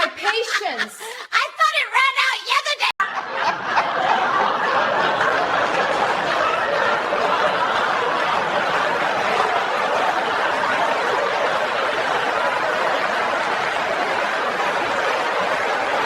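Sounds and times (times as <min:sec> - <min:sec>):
audience laughing: 0:00.0 - 0:01.5, 0:03.0 - 0:16.0.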